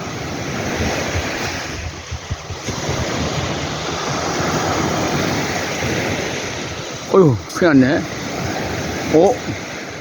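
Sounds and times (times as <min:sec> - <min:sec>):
sea waves breaking on beach: 0:00.0 - 0:10.0
wind buffeting microphone: 0:00.0 - 0:10.0.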